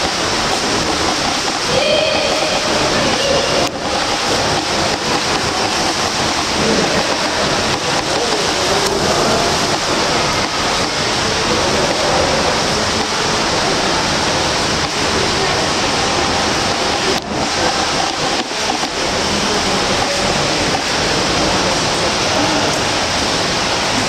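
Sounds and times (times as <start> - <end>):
water splashing from swimming: 0.0 - 24.0.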